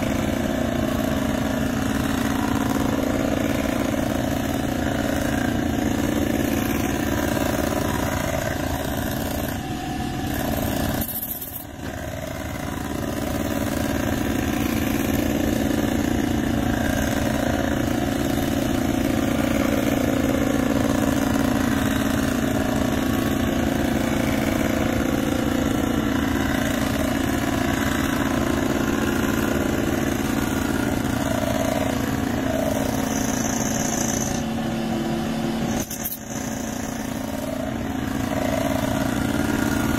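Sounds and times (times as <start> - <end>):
milling machine humming: 0.0 - 39.9.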